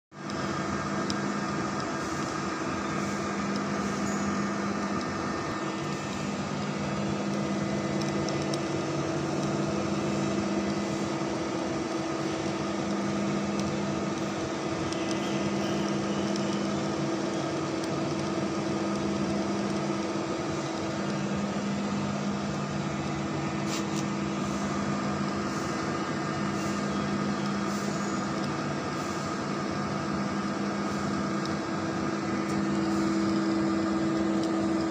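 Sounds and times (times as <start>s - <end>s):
lathe hum and gear whine: 0.1s - 34.9s.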